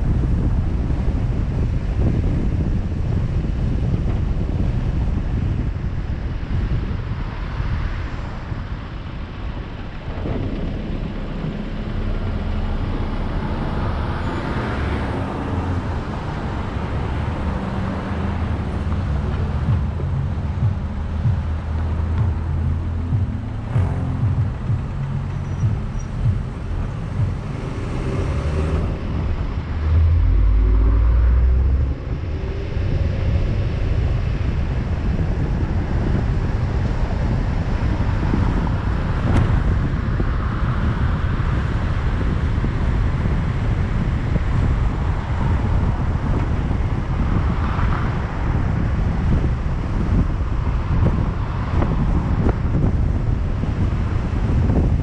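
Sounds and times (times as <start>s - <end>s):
car accelerating and cruising: 0.0s - 55.0s
loud low rumble: 0.0s - 55.0s
road and wind noise: 0.0s - 55.0s.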